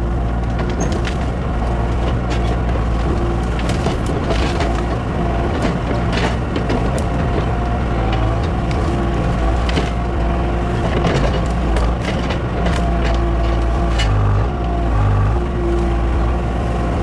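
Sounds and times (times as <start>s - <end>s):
large engine running under load: 0.0s - 17.0s
wood cracking and snapping: 0.4s - 14.2s.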